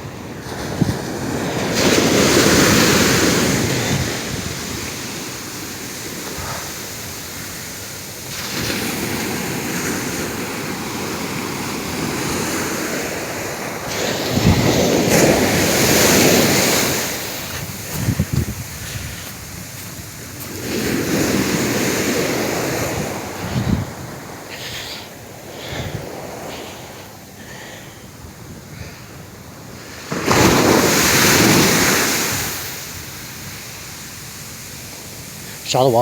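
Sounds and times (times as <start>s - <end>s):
waves breaking on beach: 0.0s - 36.0s.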